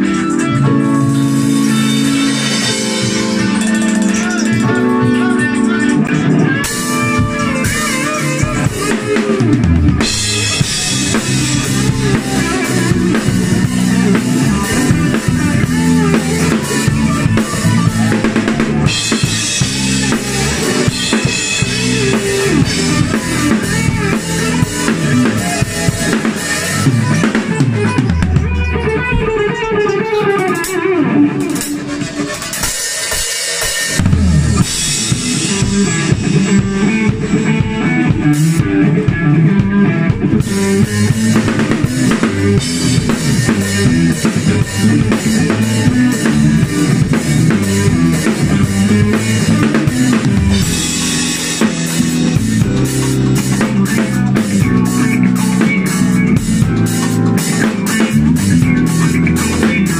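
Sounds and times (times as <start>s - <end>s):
electric guitar: 0.0s - 59.9s.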